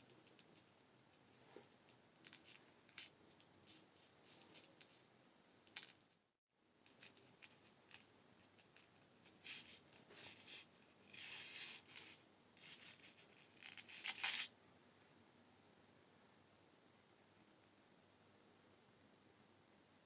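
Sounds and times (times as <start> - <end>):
faint scratching and clicking: 0.0 - 15.2, 16.9 - 19.2.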